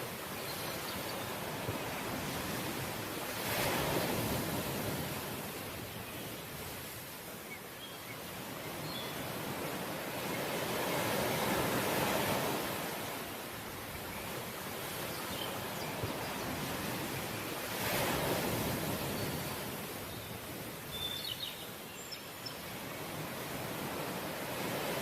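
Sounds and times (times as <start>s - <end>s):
ocean waves washing in: 0.0s - 7.6s, 9.2s - 20.9s, 22.7s - 25.0s.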